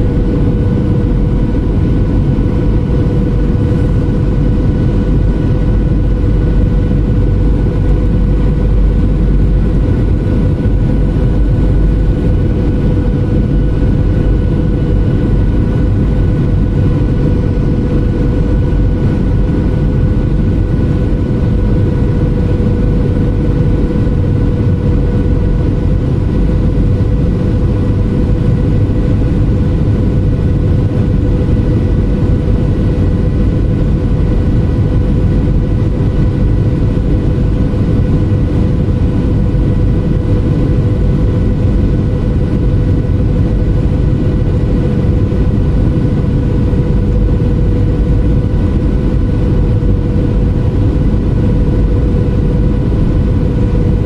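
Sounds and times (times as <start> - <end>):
jet engine and airflow rumble: 0.0 - 54.0.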